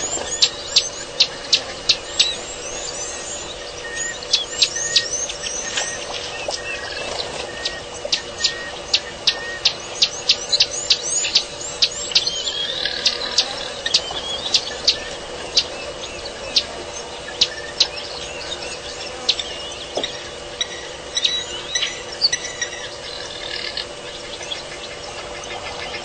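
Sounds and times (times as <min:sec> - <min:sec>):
birds chirping: 0:00.0 - 0:26.0
faint steady hum: 0:00.0 - 0:26.0.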